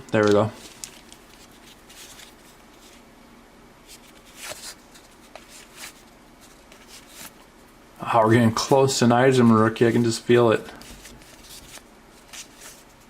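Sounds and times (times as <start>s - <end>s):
cards rustling and flicking: 0.0s - 3.0s, 3.9s - 7.4s, 8.6s - 13.0s.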